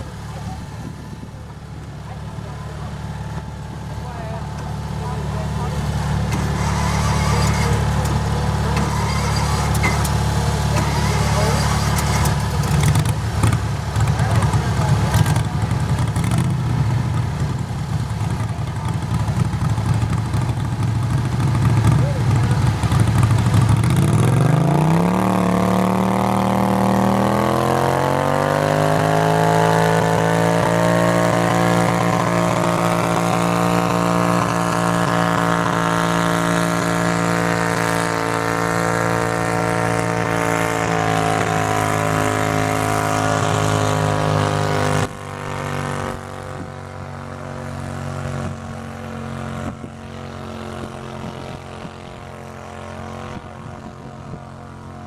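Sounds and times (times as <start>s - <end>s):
garden tractor engine revving: 0.0s - 55.0s.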